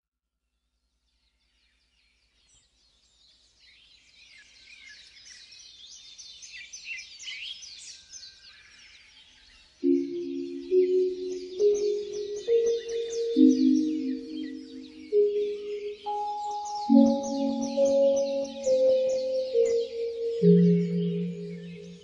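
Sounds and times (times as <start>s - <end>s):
small birds chirping: 1.8s - 22.0s.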